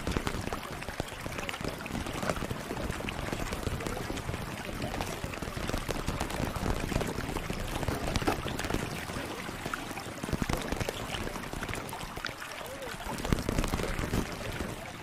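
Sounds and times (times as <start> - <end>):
soft irregular clicks and crackles: 0.0 - 15.0.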